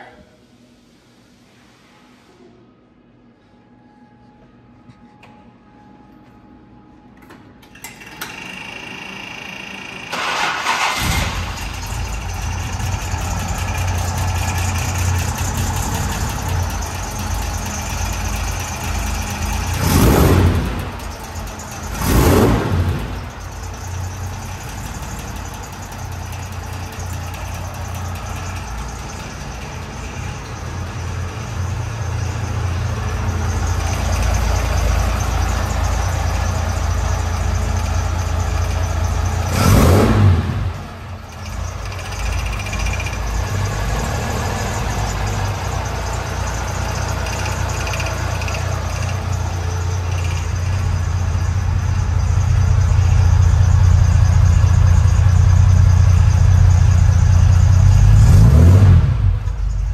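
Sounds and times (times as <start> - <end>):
car engine idling: 10.0 - 59.9
engine revving: 10.2 - 59.9.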